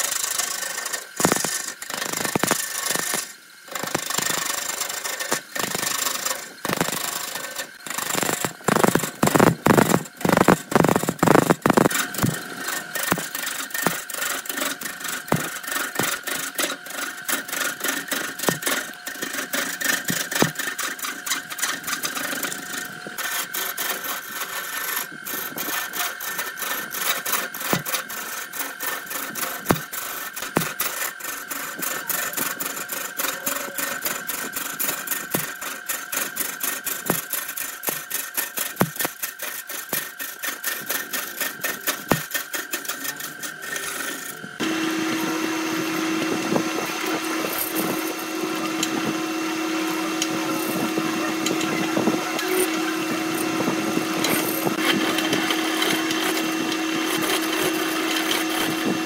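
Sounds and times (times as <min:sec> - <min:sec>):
lathe tool scraping chatter: 0:00.0 - 0:59.0
steady high whine: 0:00.0 - 0:59.0.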